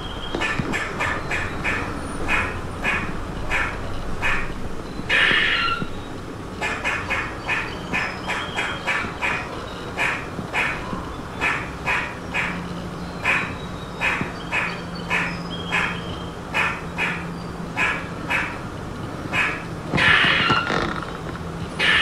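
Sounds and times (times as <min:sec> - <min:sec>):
squirrel alarm barks: 0:00.3 - 0:06.0, 0:06.6 - 0:20.8, 0:21.8 - 0:22.0.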